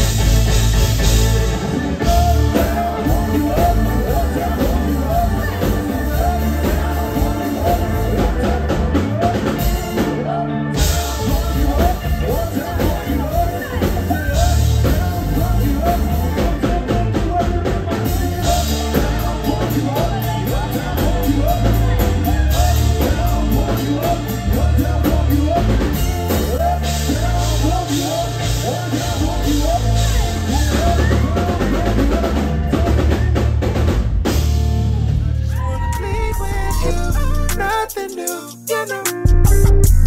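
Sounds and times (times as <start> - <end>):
person singing: 0.0 - 33.6, 34.8 - 40.0
bass guitar: 0.0 - 40.0
drum kit: 0.0 - 40.0
electric guitar: 0.0 - 40.0.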